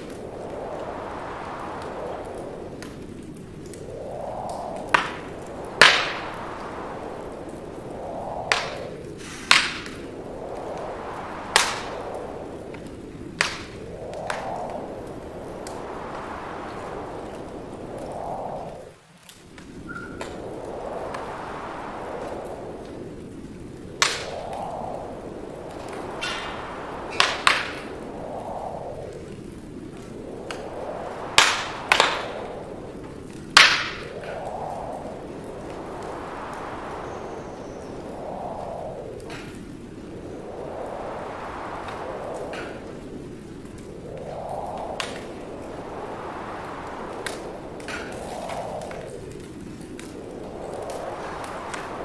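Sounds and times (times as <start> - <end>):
wind rushing in gusts: 0.0 - 52.0
wood fire crackling and popping: 0.0 - 52.0.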